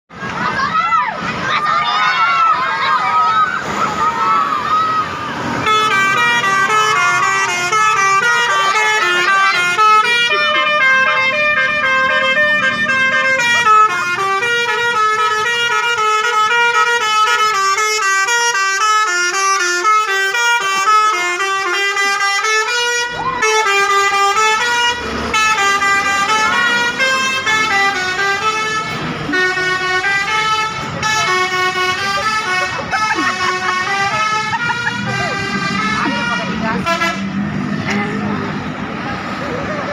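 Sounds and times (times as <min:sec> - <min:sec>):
musical bus horn tune: 0:05.5 - 0:38.2.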